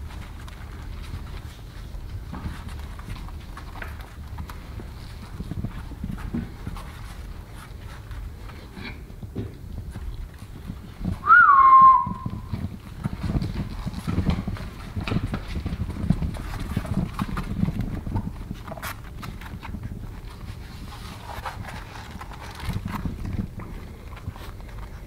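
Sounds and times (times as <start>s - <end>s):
puppy paws pattering on hard floor: 0.0s - 25.0s.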